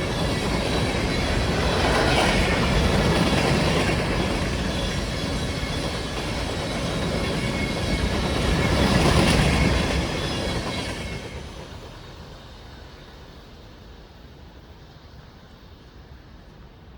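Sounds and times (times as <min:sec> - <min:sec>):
freight train cars rattling past: 0:00.0 - 0:14.8.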